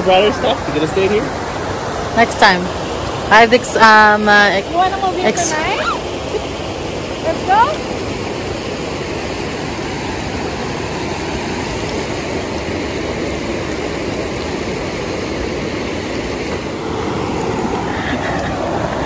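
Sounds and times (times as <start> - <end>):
creek rushing over rocks: 0.0 - 19.0.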